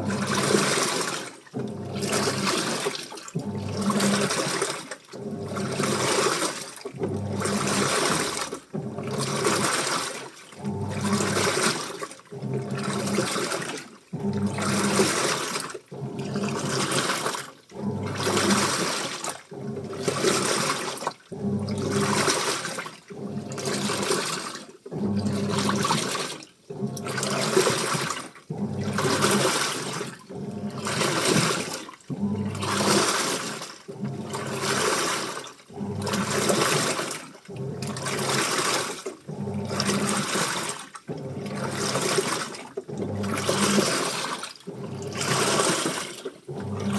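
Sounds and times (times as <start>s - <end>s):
washing machine motor humming: 0.0s - 46.9s
washing machine water sloshing: 0.0s - 46.9s.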